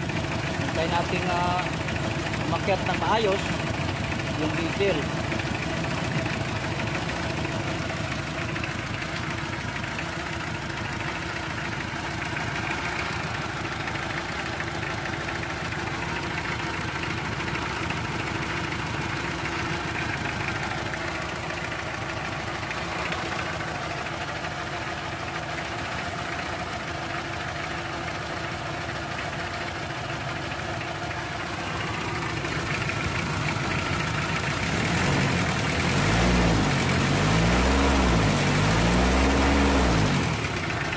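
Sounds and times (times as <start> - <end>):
diesel engine idling clatter: 0.0 - 40.9.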